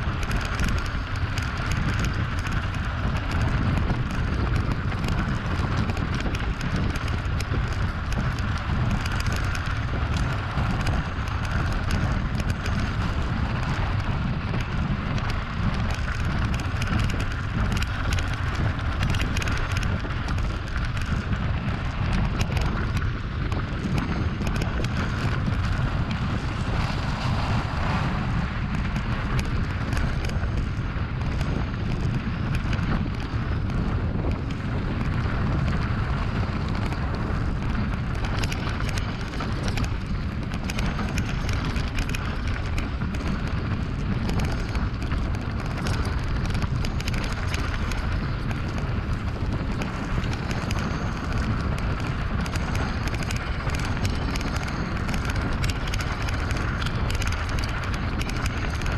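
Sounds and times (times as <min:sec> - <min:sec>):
bike rattling and knocking: 0:00.0 - 0:58.9
wind rumble on microphone: 0:00.0 - 0:58.9.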